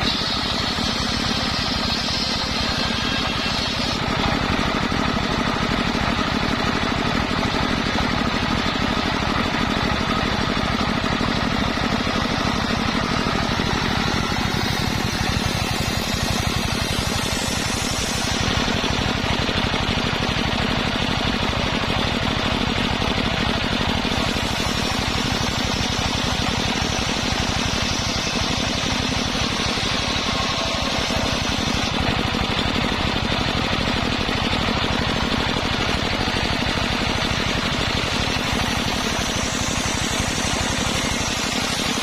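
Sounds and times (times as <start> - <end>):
circular sawmill running: 0.0 - 42.0.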